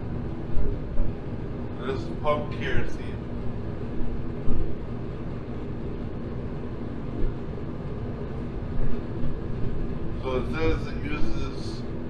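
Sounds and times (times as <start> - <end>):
faint low hum: 0.0 - 12.0
heater blower and burner noise: 0.0 - 12.0.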